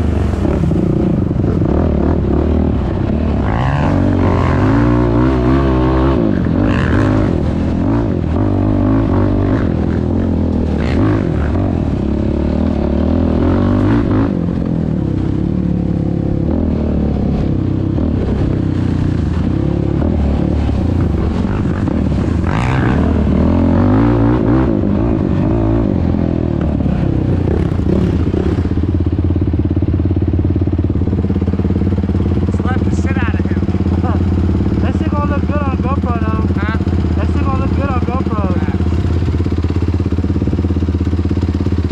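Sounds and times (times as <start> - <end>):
quad engine revving: 0.0 - 41.9.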